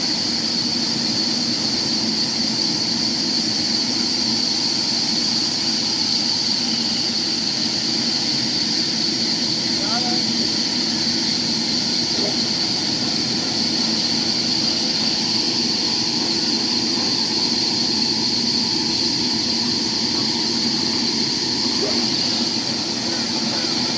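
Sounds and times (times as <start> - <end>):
sawmill machinery droning: 0.1 - 23.9.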